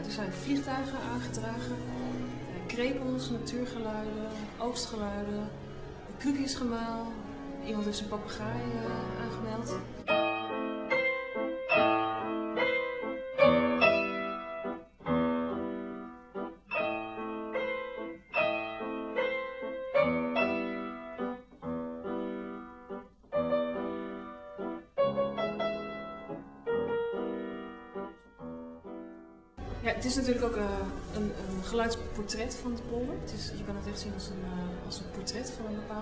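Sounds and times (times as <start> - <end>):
solo piano playing: 0.0 - 36.0.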